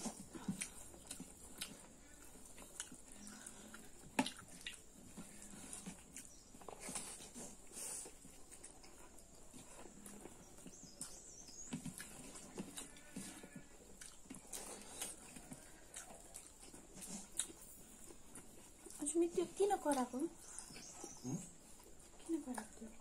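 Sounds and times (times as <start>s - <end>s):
chewing and lip smacks: 0.0s - 23.0s.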